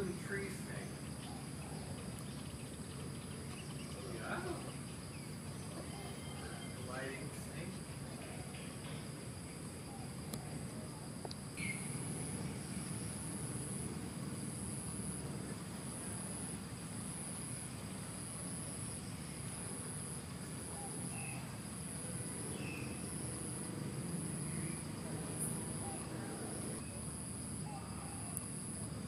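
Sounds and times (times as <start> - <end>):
insects trilling: 0.0 - 29.0
low outdoor background hum: 0.0 - 29.0
pulsing insect song: 0.0 - 29.0.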